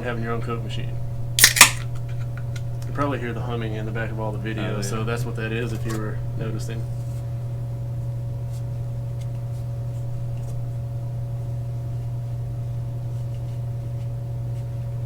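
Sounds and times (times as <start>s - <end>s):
vending machine humming: 0.0s - 15.0s.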